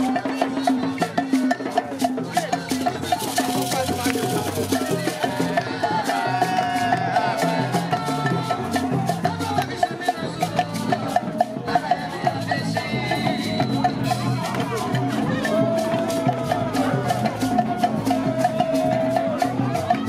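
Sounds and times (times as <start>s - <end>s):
fast percussion beat: 0.0s - 20.0s.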